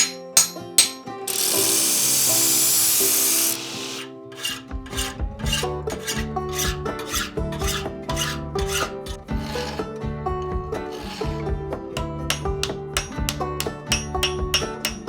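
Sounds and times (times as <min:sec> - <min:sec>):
file rasping on steel: 0:00.0 - 0:10.0, 0:10.8 - 0:15.0.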